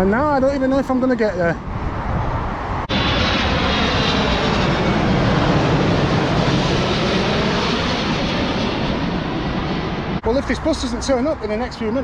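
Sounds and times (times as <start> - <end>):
aircraft engine roar: 0.0 - 12.0.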